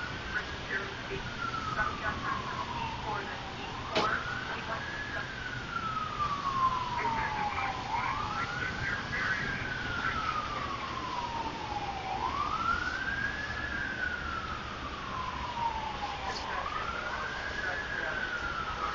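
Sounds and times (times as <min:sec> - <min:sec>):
siren wailing: 0:00.0 - 0:18.9.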